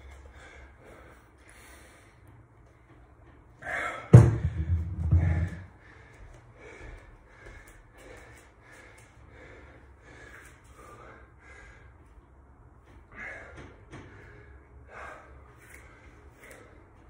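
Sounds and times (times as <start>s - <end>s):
man breathing hard: 0.0s - 2.5s, 4.8s - 17.0s.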